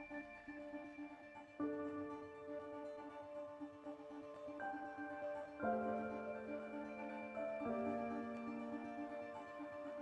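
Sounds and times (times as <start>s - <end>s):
slow sustained chords: 0.0s - 10.0s.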